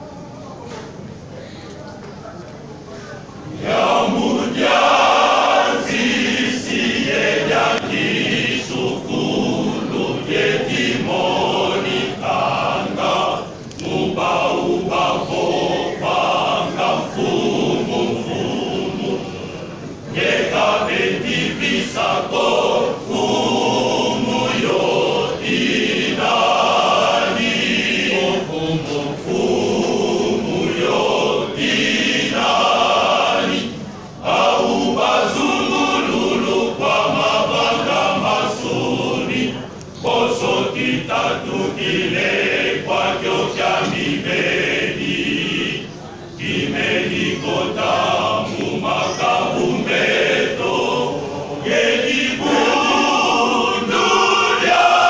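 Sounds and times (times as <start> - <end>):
church choir singing: 3.5 - 55.0.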